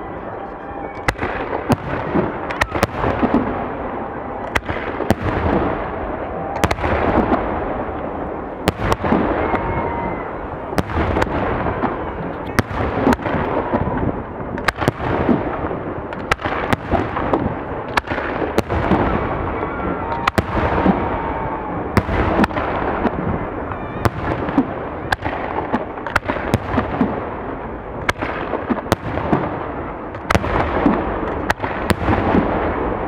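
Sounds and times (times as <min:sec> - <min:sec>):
fireworks rumble and crackle: 0:00.0 - 0:33.0.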